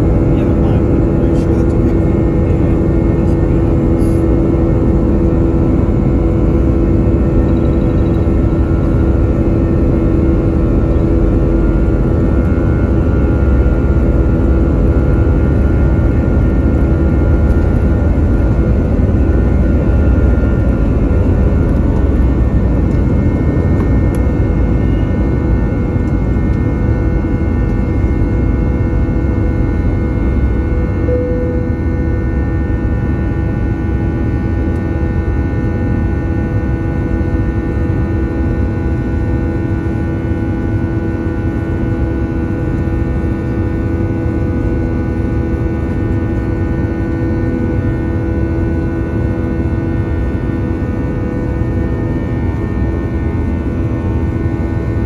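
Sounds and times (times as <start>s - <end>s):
engine tones humming: 0.0s - 55.0s
jet engine cabin rumble: 0.0s - 55.0s.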